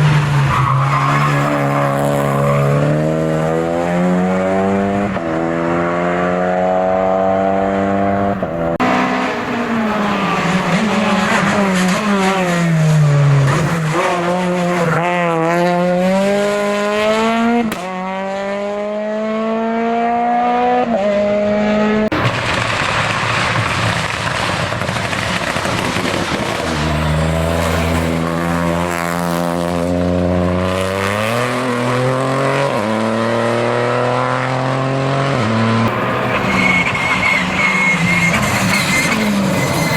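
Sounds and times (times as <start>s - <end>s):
race car engines revving: 0.0s - 22.6s, 25.4s - 39.9s.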